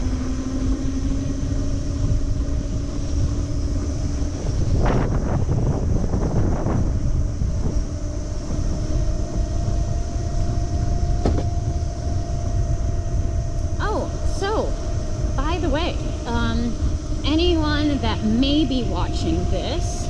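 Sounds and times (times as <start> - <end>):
electric motor whine: 0.0 - 20.0
wind rushing over microphone: 0.0 - 20.0.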